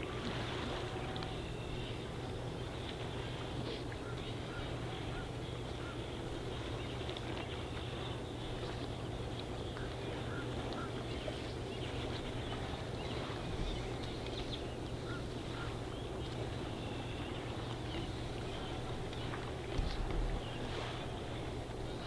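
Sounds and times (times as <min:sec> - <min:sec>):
faint bird calls: 0:00.0 - 0:22.0.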